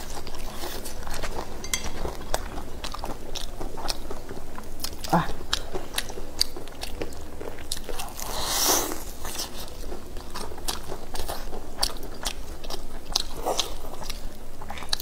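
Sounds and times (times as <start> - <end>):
crunchy chewing of fried chicken: 0.0 - 1.6, 2.6 - 15.0.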